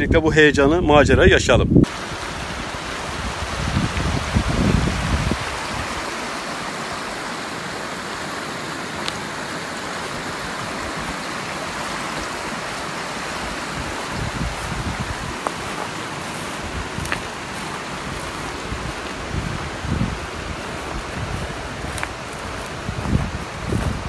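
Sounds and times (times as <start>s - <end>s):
creek rushing over stones: 1.8s - 24.0s.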